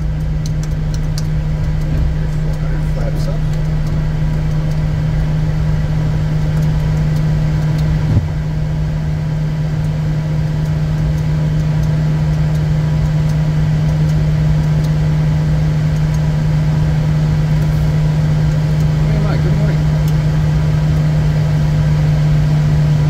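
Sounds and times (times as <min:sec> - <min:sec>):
jet cockpit drone: 0:00.0 - 0:23.0.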